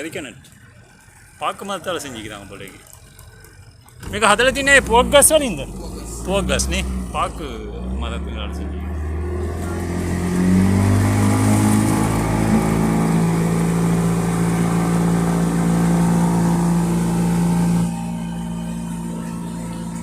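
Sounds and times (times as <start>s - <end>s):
motorboat engine revving: 0.0s - 20.0s.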